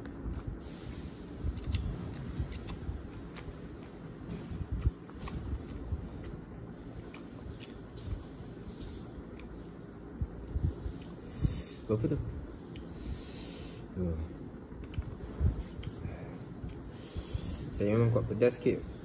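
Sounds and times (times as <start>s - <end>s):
chewing and wet mouth sounds: 0.0s - 14.0s, 14.7s - 17.8s.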